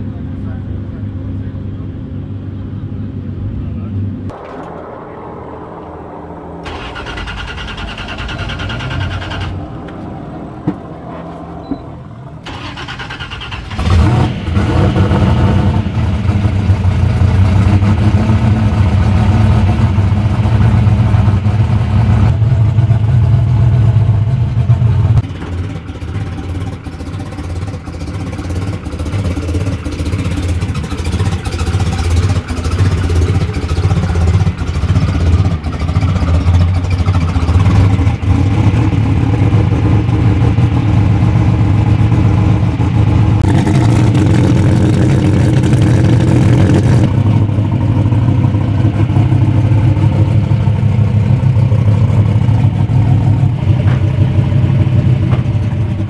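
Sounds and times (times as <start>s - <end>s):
engine heavy idle: 0.0s - 21.7s, 22.3s - 56.0s.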